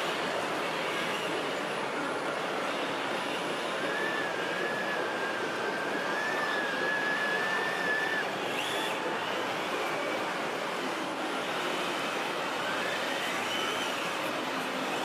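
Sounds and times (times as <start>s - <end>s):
busy exhibition hall noise: 0.0s - 15.0s
small electric motor whine: 0.0s - 15.0s.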